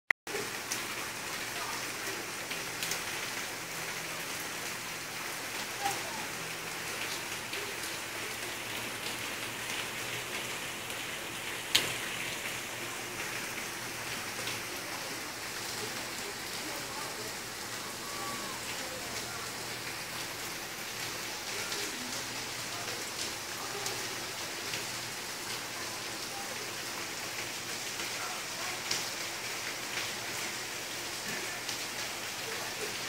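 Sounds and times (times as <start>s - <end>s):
heavy rain on pavement: 0.2s - 33.0s.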